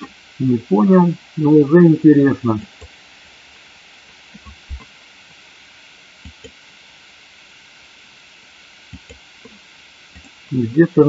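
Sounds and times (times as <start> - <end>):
microphone noise hiss: 0.0 - 11.0.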